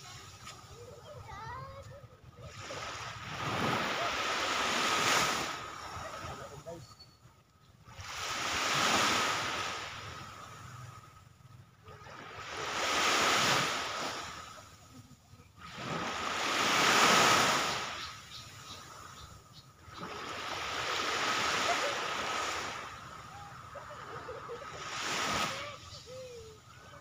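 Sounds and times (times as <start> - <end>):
waves washing up a sandy shore: 0.0 - 1.8, 2.4 - 6.8, 7.9 - 11.2, 11.8 - 27.0.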